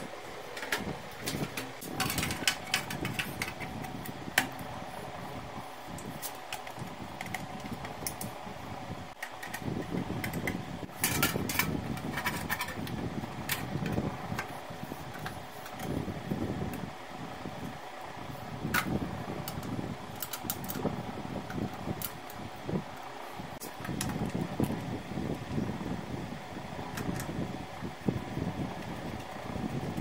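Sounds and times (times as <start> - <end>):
steady fan-like hum: 0.0 - 30.0.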